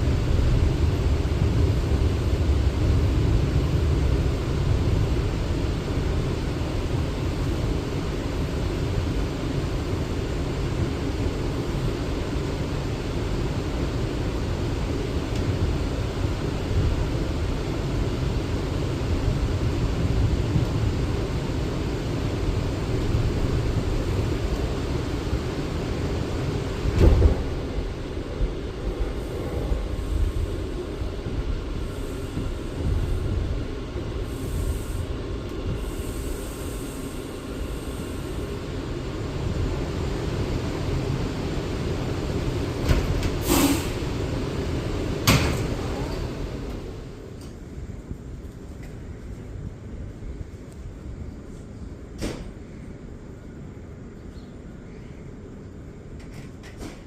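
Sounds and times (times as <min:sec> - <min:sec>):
subway car rumble and hiss: 0:00.0 - 0:57.0.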